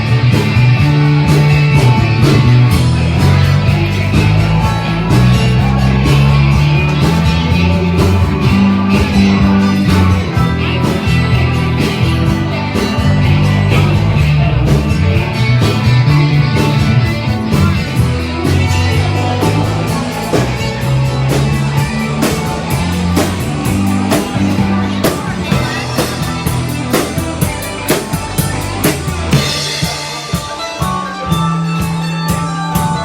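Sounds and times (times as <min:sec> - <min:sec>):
bass guitar: 0:00.0 - 0:33.0
drums: 0:00.0 - 0:33.0
electric guitar: 0:00.0 - 0:33.0
person singing: 0:00.0 - 0:33.0.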